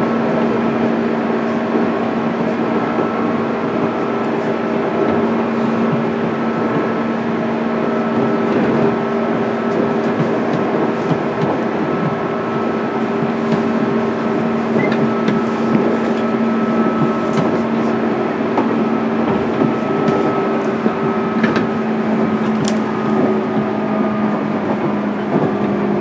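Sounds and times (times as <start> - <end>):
train motor whine: 0.0 - 26.0
wheels rumbling on rail: 0.0 - 26.0.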